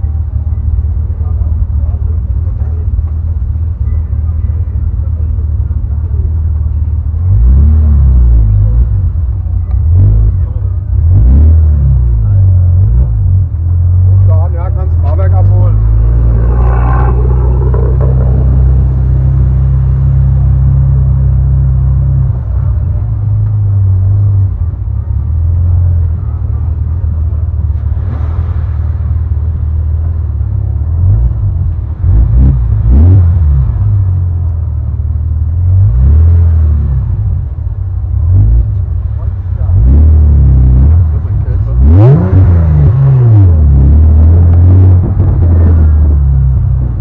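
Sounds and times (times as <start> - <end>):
car engine rumbling and revving: 0.0 - 47.0.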